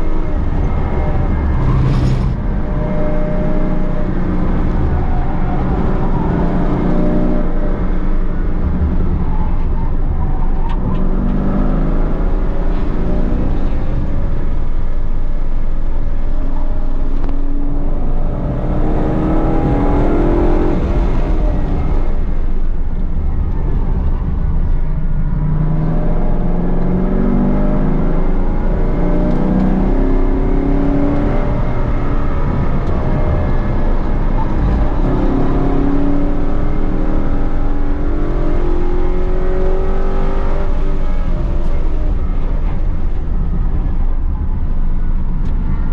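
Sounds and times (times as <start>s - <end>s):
car engine revving through gears: 0.0s - 9.5s, 10.6s - 14.4s, 17.2s - 22.4s, 23.5s - 45.9s.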